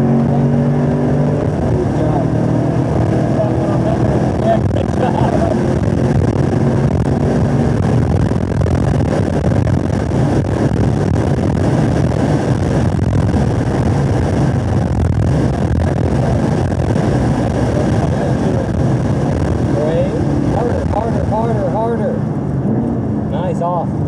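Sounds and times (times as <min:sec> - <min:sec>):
car engine at high revs: 0:00.0 - 0:24.0
road noise: 0:00.0 - 0:24.0
wind noise: 0:00.0 - 0:24.0.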